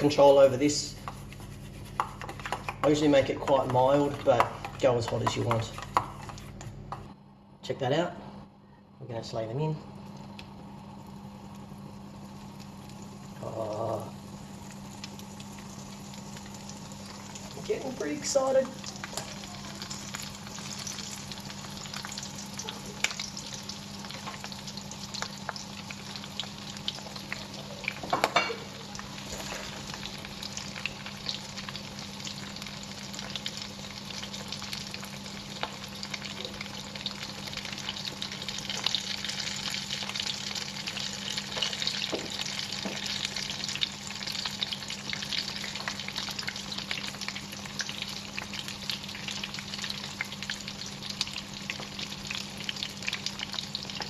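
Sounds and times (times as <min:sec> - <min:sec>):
food deep-frying in oil: 0:00.0 - 0:07.0, 0:09.8 - 0:54.0
low steady hum: 0:00.0 - 0:54.0.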